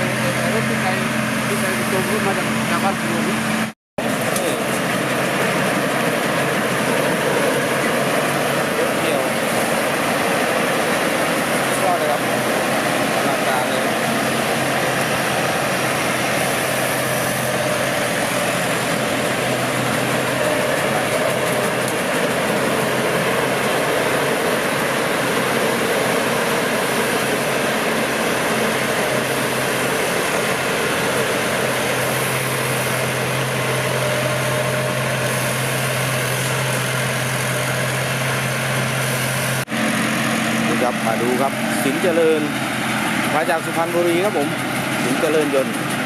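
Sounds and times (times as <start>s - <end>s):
combine harvester engine drone: 0.0s - 46.0s.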